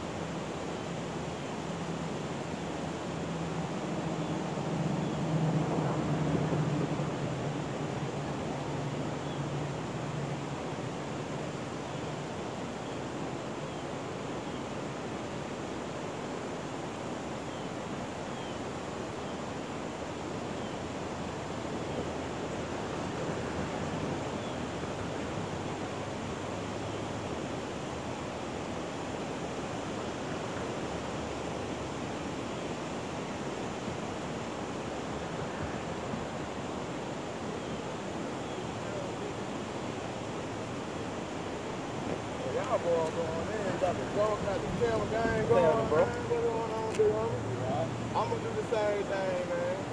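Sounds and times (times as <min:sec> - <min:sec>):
water rushing over weir: 0:00.0 - 0:49.9.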